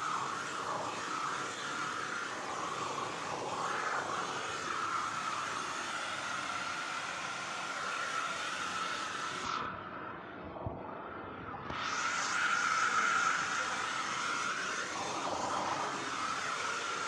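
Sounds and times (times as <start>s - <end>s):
high-pitched whine: 0.0s - 17.0s
machinery hum and hiss: 0.0s - 17.0s.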